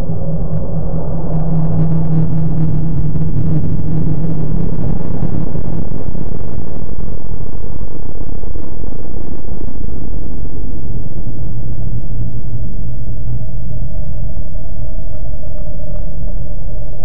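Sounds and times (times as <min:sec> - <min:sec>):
deep rumbling space drone: 0:00.0 - 0:17.0.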